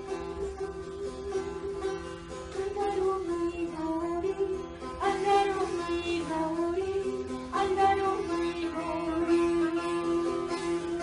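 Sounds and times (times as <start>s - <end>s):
plucked long-necked lute: 0.0s - 11.0s
woman singing: 0.0s - 11.0s.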